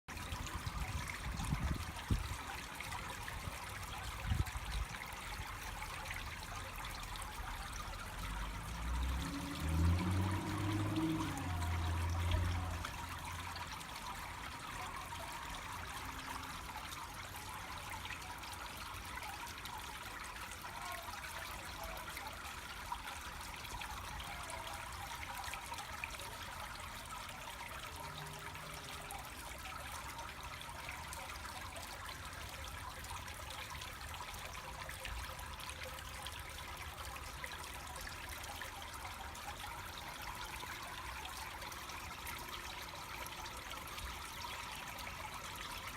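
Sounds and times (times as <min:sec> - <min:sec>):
water trickling and splashing: 0:00.1 - 0:45.9.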